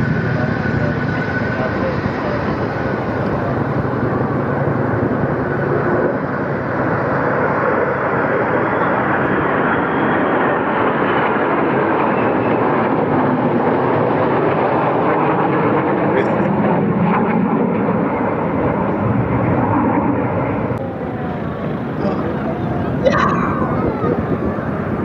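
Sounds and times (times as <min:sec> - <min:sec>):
aircraft engine noise: 0:00.0 - 0:25.0.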